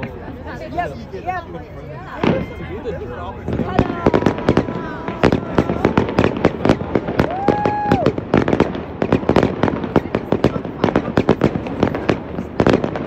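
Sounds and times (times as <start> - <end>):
fireworks bangs and crackles: 0.0 - 1.0, 2.1 - 13.0.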